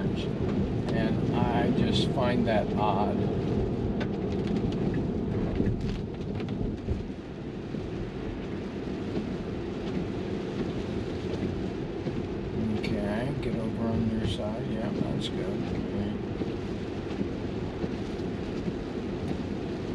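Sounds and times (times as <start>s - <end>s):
tyres rumbling on wet road: 0.0s - 19.9s
raindrops ticking on glass roof: 0.3s - 19.9s.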